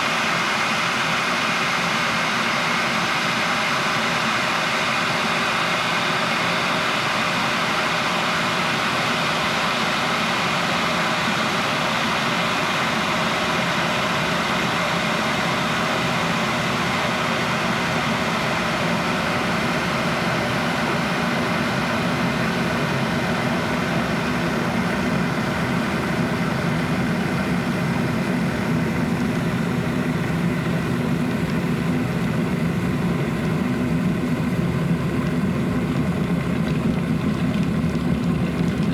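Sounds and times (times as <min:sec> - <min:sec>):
kettle water boiling: 0:00.0 - 0:38.9.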